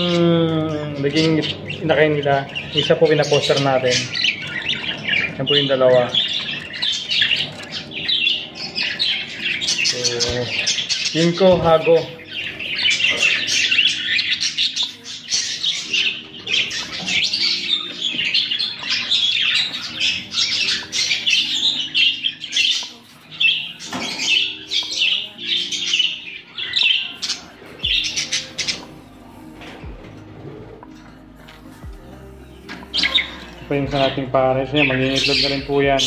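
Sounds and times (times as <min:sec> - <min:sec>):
budgerigars chattering: 0:00.0 - 0:36.0.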